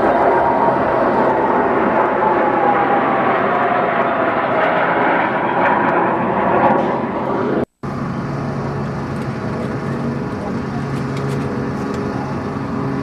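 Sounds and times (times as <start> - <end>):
airplane engine passing overhead: 0.0 - 13.0.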